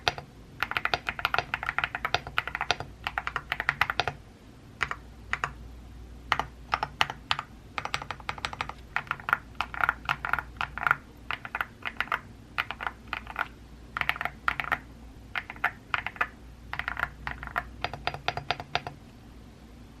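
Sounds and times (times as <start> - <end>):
mechanical keyboard typing: 0.0 - 4.2, 4.8 - 5.6, 6.3 - 19.0.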